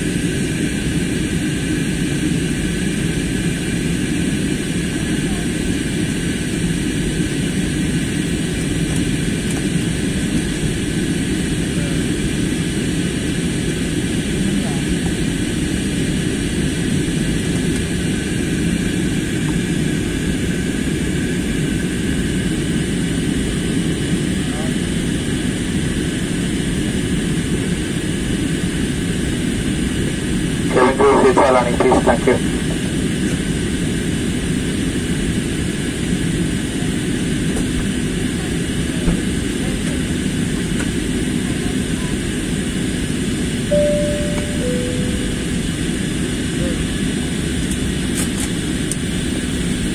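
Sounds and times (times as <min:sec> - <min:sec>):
jet airliner cabin noise: 0:00.0 - 0:49.9.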